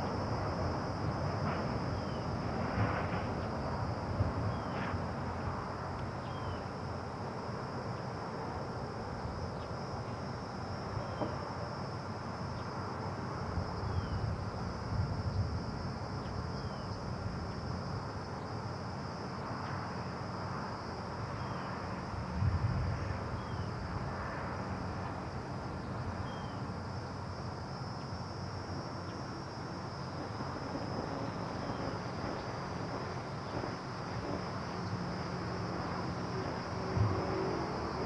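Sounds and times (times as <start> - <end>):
insects droning high-pitched: 0.0 - 38.0.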